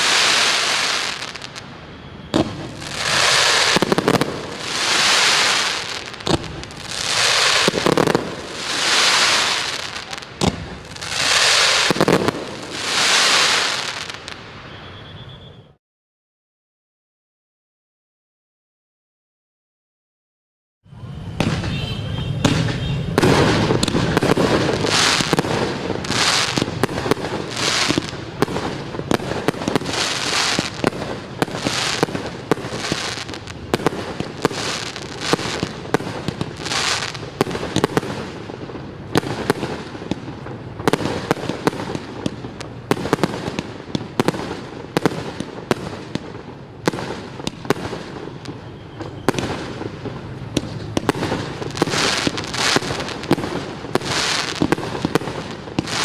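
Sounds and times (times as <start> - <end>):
fireworks bangs: 0.0 - 15.3, 20.9 - 56.0.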